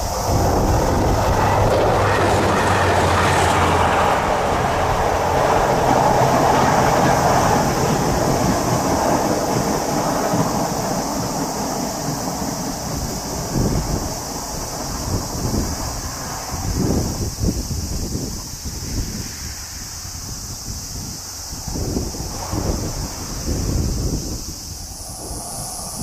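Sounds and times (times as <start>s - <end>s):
train crossing steel bridge: 0.0s - 26.0s.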